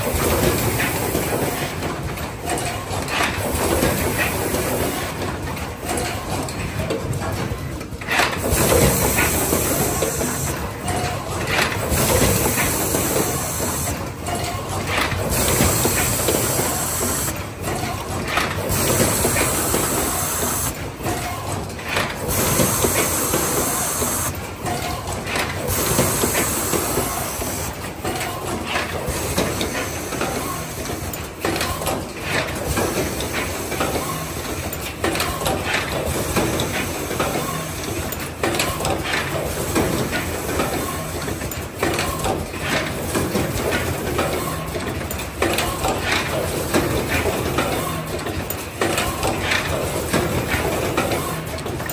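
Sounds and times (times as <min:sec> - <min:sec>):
mechanical clatter of clicks: 0:00.3 - 0:16.8, 0:17.4 - 0:20.0, 0:20.7 - 0:23.6, 0:24.6 - 0:27.1, 0:27.8 - 0:51.9.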